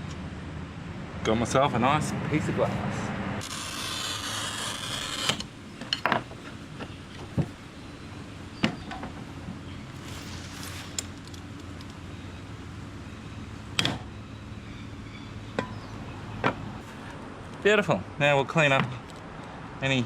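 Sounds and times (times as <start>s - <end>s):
steady low hum: 0.0s - 19.7s.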